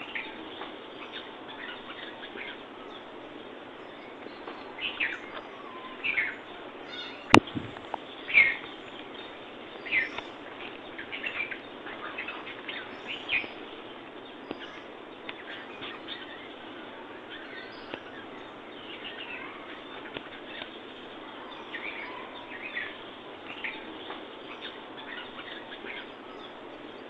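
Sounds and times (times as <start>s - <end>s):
birds chirping: 0.0s - 27.0s
steady outdoor hiss: 0.0s - 27.0s.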